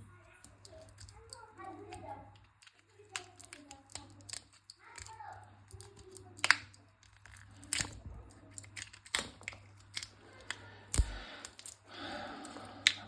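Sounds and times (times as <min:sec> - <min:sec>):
crinkling: 0:00.0 - 0:13.0
sharp plastic clicks: 0:00.4 - 0:11.8.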